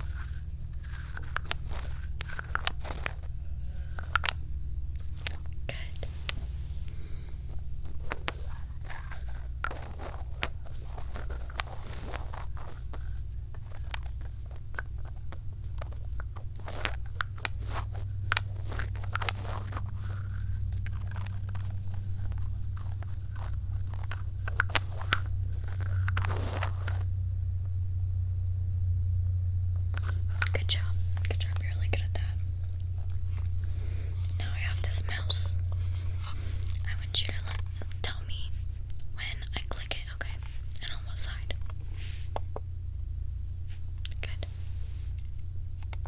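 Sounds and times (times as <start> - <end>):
scratching on microphone: 0.0 - 28.6, 29.7 - 46.0
low hum: 0.0 - 46.0.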